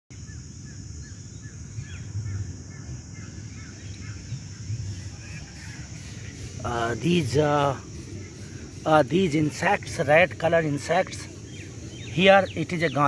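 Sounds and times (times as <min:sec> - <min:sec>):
bird chirping: 0:00.1 - 0:13.0
high-pitched insect drone: 0:00.1 - 0:13.0
low rumble: 0:00.5 - 0:12.7.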